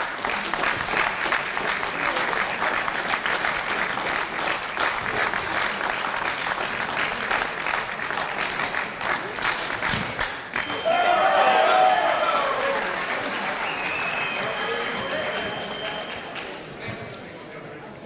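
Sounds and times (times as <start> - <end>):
spectators applauding: 0.0 - 16.8.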